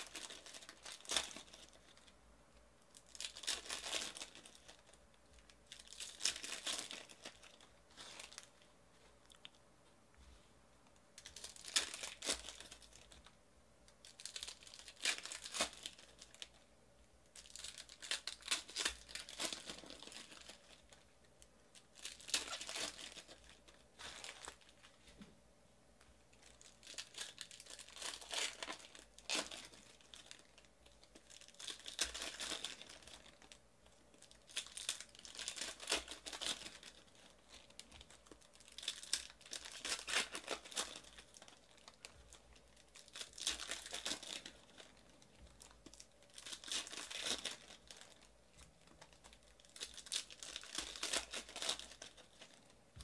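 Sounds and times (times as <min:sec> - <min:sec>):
foil wrappers crinkling: 0:00.0 - 0:02.1, 0:02.9 - 0:09.6, 0:11.2 - 0:13.3, 0:14.0 - 0:16.6, 0:17.3 - 0:21.1, 0:21.7 - 0:25.2, 0:26.3 - 0:52.8.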